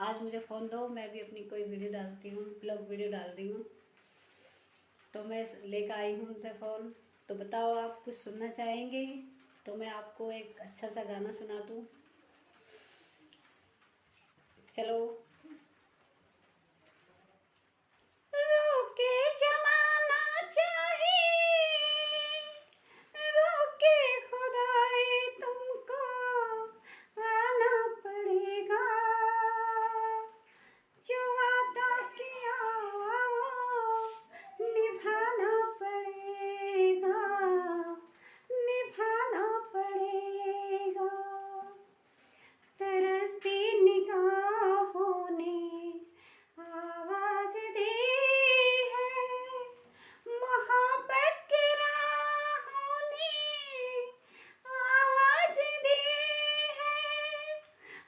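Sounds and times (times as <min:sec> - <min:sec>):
woman singing unaccompanied: 0:00.0 - 0:04.0, 0:05.0 - 0:12.1, 0:14.6 - 0:15.6, 0:17.9 - 0:58.0.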